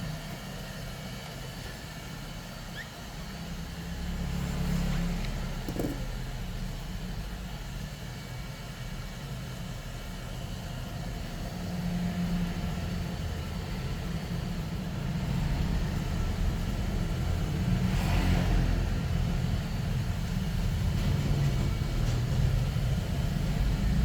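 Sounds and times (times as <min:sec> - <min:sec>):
background traffic rumble: 0:03.1 - 0:24.0.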